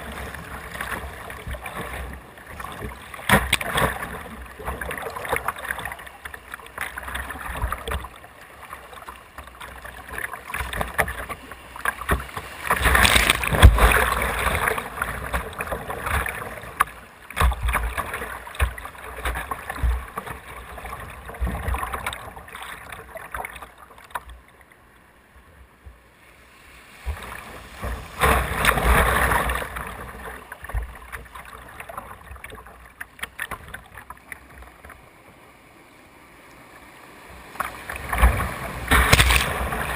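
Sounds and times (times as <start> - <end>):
whitewater rushing and splashing: 0.0 - 23.5, 26.4 - 32.5, 33.4 - 39.9.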